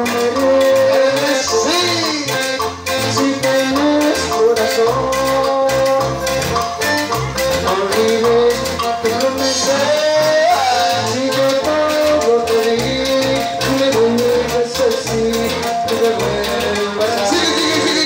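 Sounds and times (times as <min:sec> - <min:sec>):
accordion: 0:00.0 - 0:18.0
cumbia band playing live: 0:00.0 - 0:18.0.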